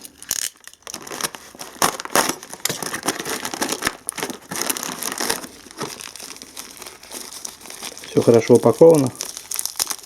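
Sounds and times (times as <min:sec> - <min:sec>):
parcel packaging crinkling and tearing: 0:00.0 - 0:10.0.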